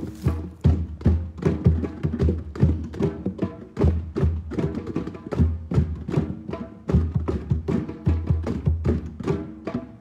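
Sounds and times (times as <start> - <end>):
group hand drumming: 0.1 - 10.0.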